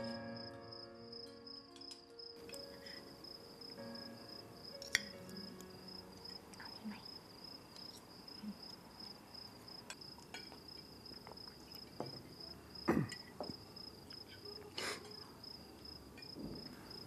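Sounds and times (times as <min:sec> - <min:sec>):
cricket chirring: 0:00.0 - 0:17.0.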